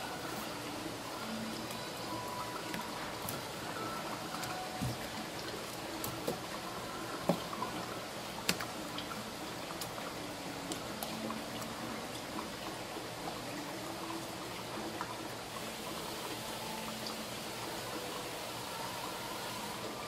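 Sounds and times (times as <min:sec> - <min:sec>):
steady watery hiss: 0:00.0 - 0:20.0.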